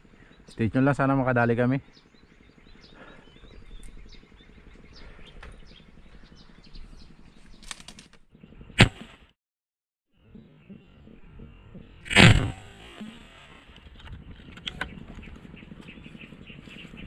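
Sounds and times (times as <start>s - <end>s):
small birds chirping: 0.0s - 8.9s, 10.2s - 17.0s.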